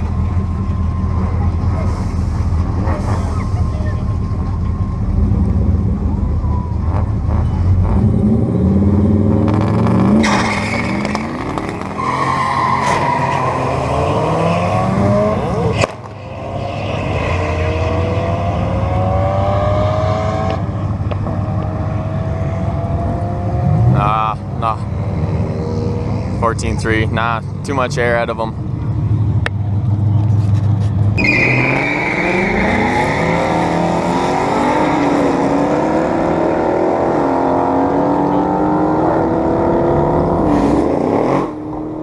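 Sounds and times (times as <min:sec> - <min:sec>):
truck engine accelerating through gears: 0:00.0 - 0:42.0.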